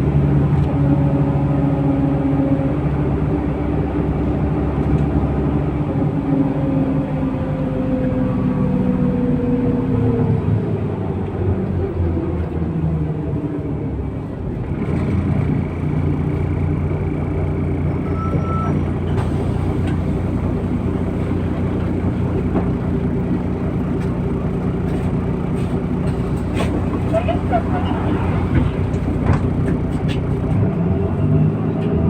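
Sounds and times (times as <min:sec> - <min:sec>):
bus diesel engine: 0:00.0 - 0:32.0.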